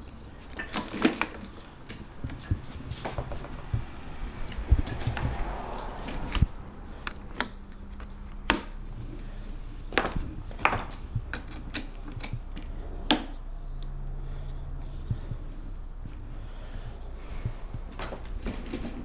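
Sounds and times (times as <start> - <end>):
clicks and knocks of parts handled: 0.1 - 19.0.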